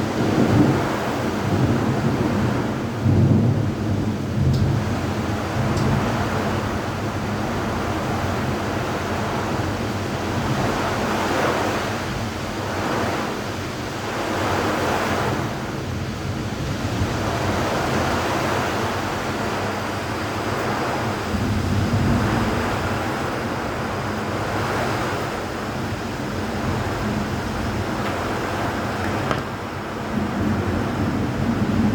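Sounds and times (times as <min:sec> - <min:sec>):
rain: 0:00.0 - 0:31.9
wind: 0:00.0 - 0:31.9.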